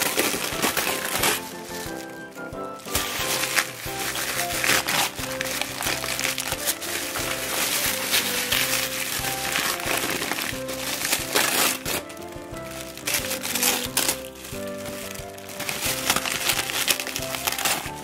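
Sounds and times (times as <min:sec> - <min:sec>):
background music: 0:00.0 - 0:18.0
wrapping paper crinkling and tearing: 0:00.0 - 0:18.0.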